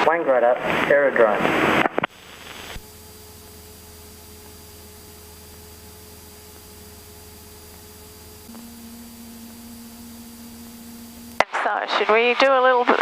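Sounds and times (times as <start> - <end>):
thin steady whine: 0.1 - 13.0
light aircraft engine hum: 2.1 - 13.0.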